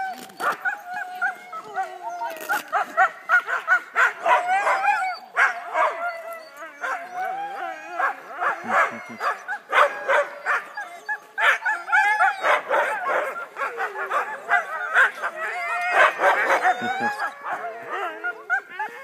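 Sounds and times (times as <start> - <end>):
sled dogs barking and yipping: 0.0 - 19.0.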